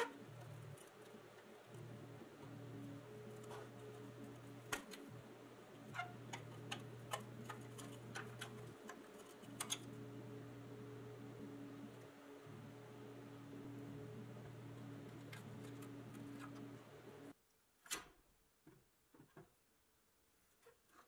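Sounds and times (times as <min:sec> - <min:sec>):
faint steady hum: 0:00.0 - 0:17.7.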